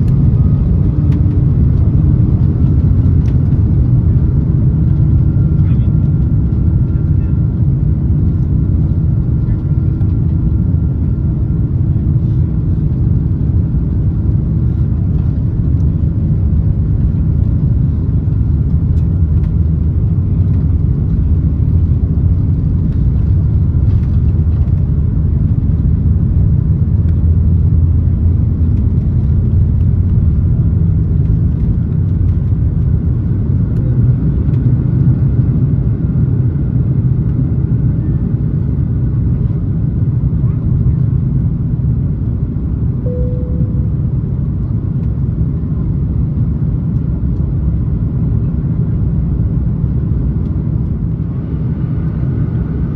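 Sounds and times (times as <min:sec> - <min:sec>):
aircraft cabin engine rumble: 0:00.0 - 0:52.9.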